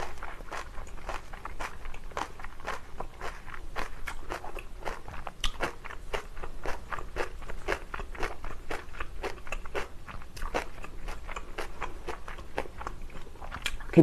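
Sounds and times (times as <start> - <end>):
crunchy chewing: 0.0 - 13.9.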